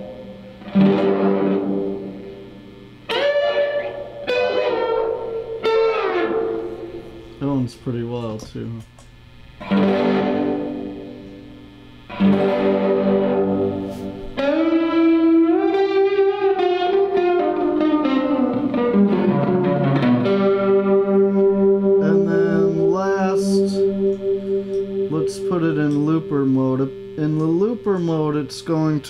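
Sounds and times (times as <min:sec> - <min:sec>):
electric guitar with delay: 0:00.0 - 0:08.3, 0:09.6 - 0:29.0.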